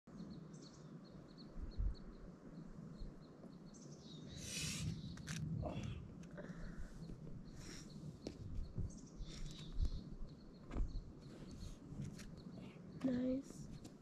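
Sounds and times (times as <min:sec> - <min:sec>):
small bird chirping: 0:00.1 - 0:14.0.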